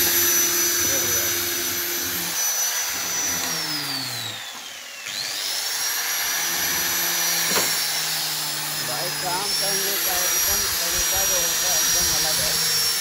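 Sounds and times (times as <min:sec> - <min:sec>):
power tool motor whine: 0:00.0 - 0:13.0.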